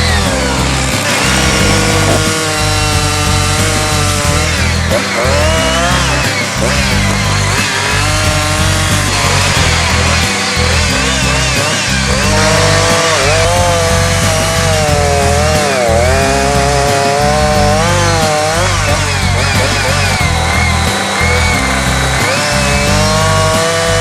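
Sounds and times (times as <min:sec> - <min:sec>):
background music: 0:00.0 - 0:24.0
chainsaw cutting wood: 0:00.0 - 0:24.0.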